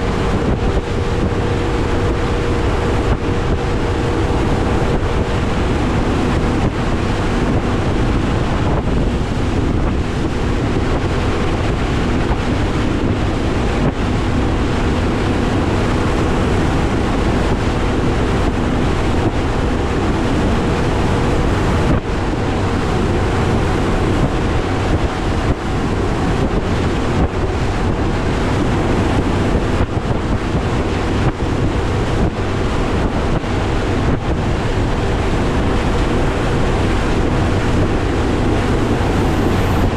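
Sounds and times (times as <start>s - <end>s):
outboard motor droning: 0.0s - 39.9s
water rushing against hull: 0.0s - 39.9s
wind buffeting microphone: 0.0s - 39.9s.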